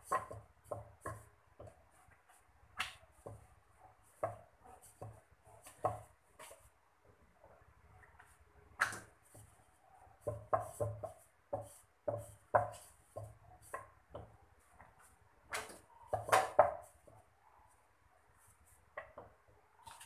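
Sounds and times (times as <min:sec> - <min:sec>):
rolling pin rolling dough: 0:00.0 - 0:17.4.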